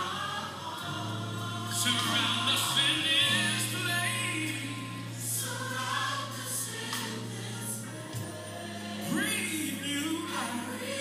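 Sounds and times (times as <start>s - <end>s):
gospel choir singing: 0.0s - 11.0s.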